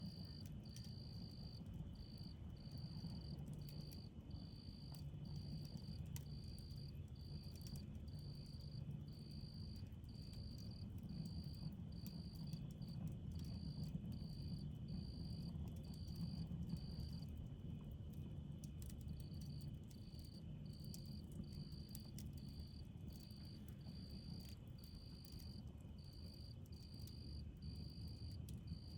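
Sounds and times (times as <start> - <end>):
faint insect drone: 0.0 - 28.9.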